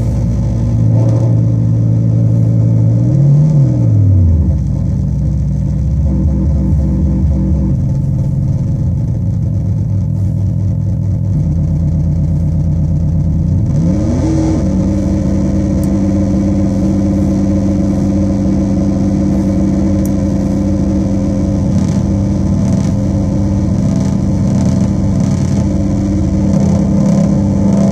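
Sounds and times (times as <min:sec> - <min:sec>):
buzzing synthesizer drone: 0:00.0 - 0:04.6, 0:05.8 - 0:09.6, 0:11.4 - 0:27.9.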